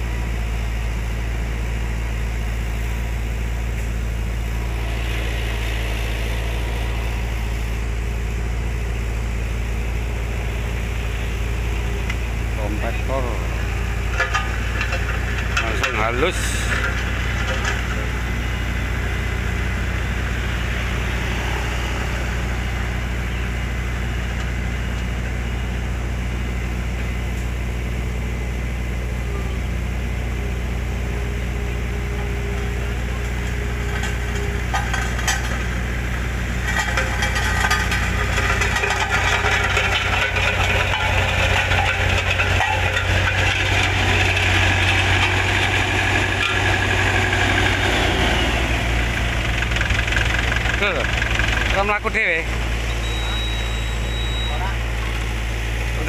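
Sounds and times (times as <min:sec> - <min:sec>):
diesel road roller engine running: 0:00.0 - 0:56.0.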